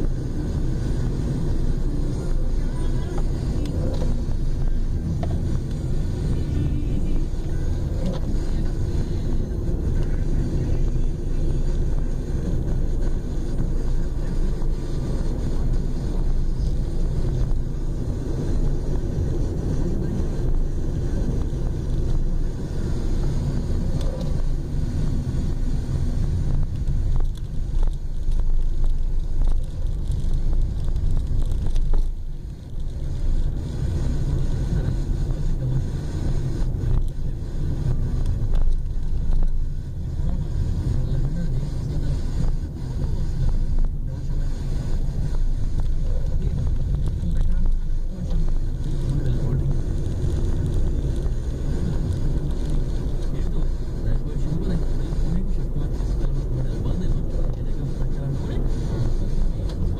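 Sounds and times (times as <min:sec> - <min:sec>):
car engine and tyre road noise: 0:00.0 - 0:59.9.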